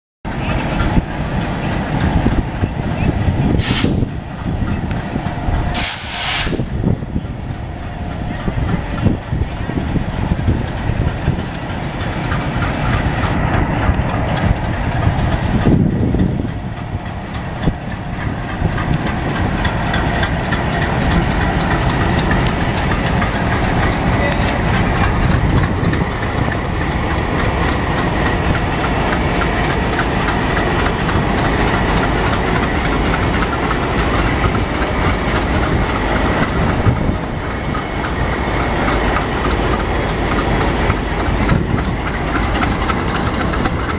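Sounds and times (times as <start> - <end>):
diesel locomotive engines: 0.3 - 43.9
wheels clacking over rail joints: 0.3 - 43.9.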